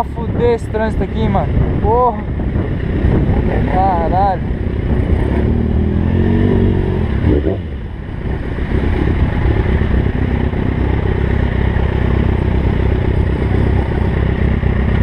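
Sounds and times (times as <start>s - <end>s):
motorcycle engine revving and running: 1.8s - 15.0s.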